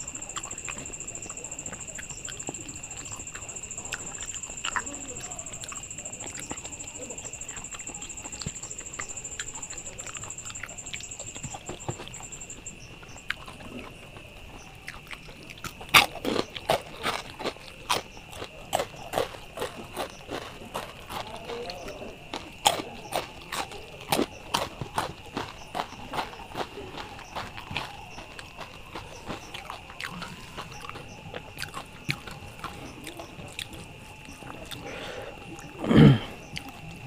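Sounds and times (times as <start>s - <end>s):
chewing with wet mouth clicks: 0.0s - 37.0s.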